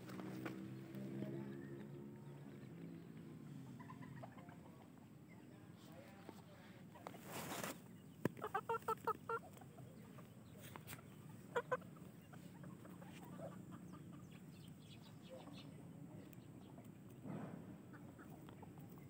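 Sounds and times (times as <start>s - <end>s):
chicken clucking: 1.3s - 17.2s, 17.8s - 19.0s.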